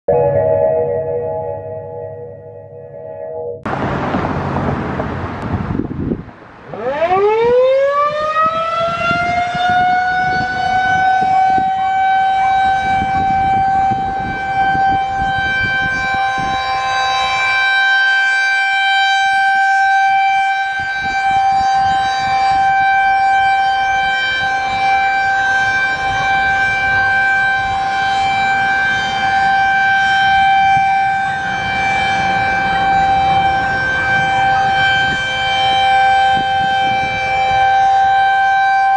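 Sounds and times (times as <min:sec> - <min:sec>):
rotating siren wailing: 0:00.1 - 0:03.7, 0:06.6 - 0:38.9.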